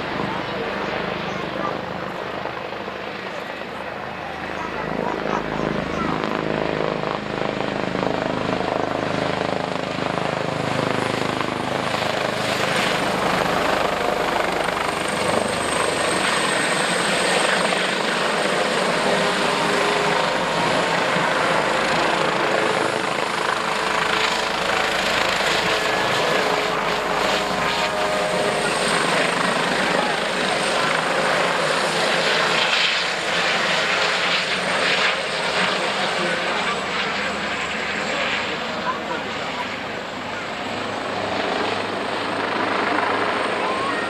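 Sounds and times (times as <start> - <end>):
helicopter rotor and turbine noise: 0.0 - 44.0.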